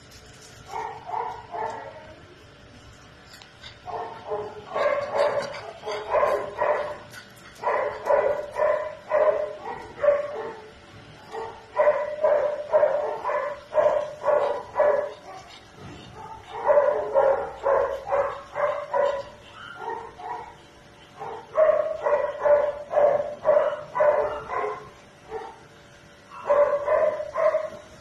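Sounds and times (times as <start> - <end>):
dog barking: 0.7 - 1.9, 3.9 - 15.5, 16.1 - 20.6, 21.2 - 25.7, 26.3 - 27.8.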